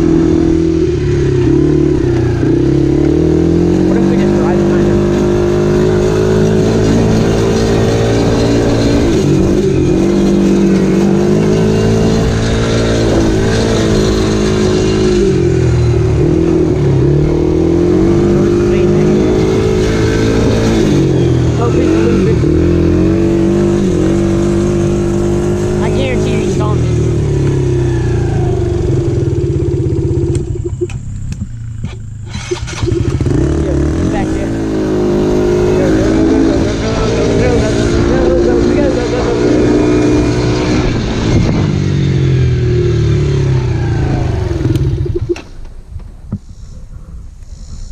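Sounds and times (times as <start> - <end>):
dirt bike engine running: 0.0 - 45.7.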